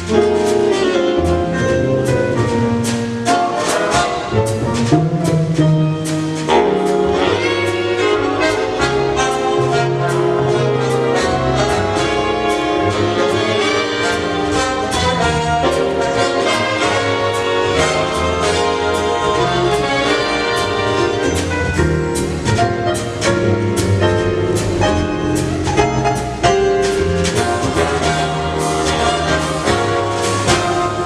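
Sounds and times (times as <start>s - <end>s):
big band jazz: 0.0s - 31.0s
brass and saxophone sections: 0.0s - 31.0s
drum kit beat: 0.0s - 31.0s.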